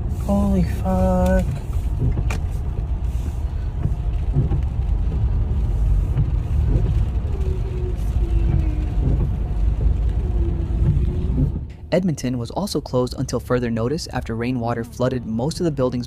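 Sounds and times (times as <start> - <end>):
car rumbling: 0.0 - 16.0.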